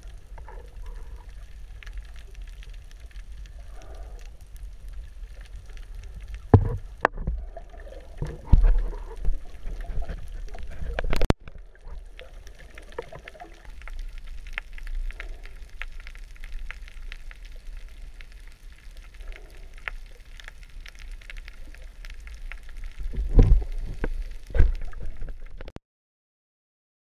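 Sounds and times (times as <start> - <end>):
deep underwater rumble: 0.0 - 25.7
underwater crackling and clicking: 0.0 - 25.8.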